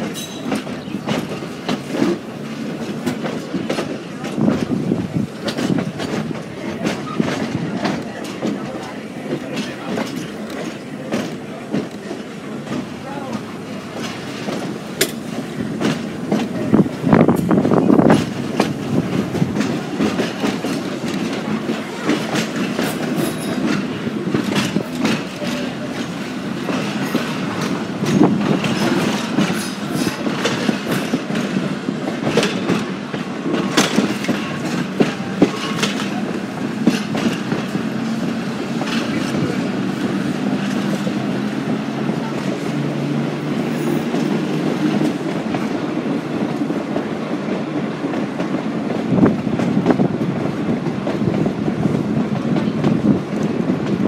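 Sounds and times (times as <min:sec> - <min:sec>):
electric railcar rumbling on track: 0:00.0 - 0:54.0
wheels clicking over rail joints: 0:00.0 - 0:54.0.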